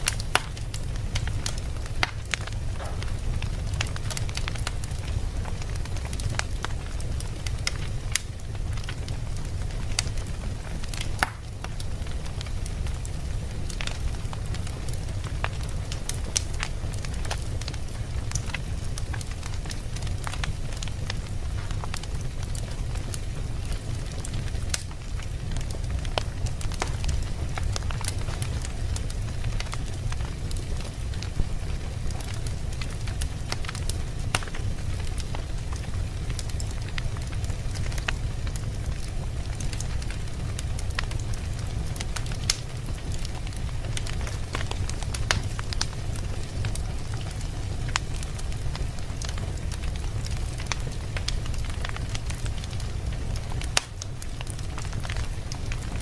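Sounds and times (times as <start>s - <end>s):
fire crackling and popping: 0.0s - 56.0s
fire low rumble: 0.0s - 56.0s.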